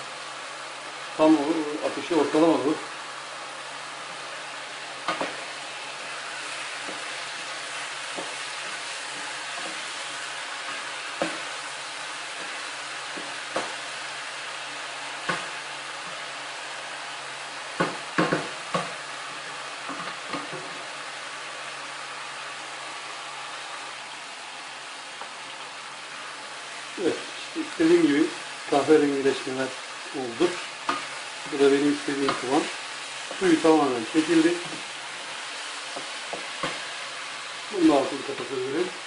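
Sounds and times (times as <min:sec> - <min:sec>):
peppers sizzling in oil: 0:00.0 - 0:39.0.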